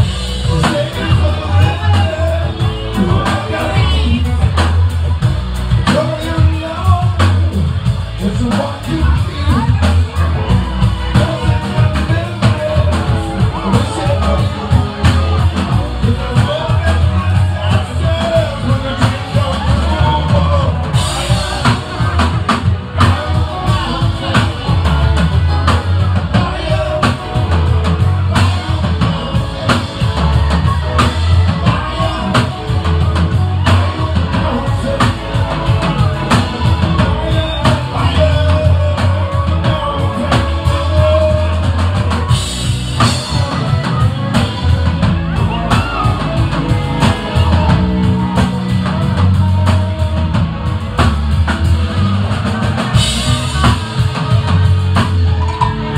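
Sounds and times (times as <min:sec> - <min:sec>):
bass: 0:00.0 - 0:55.9
drum kit beat: 0:00.0 - 0:55.9
electric guitars: 0:00.0 - 0:55.9.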